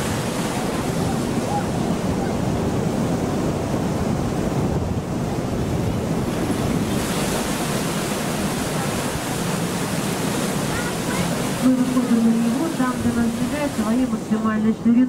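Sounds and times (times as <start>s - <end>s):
water rushing past boat: 0.0s - 15.0s
wind on microphone: 0.0s - 15.0s.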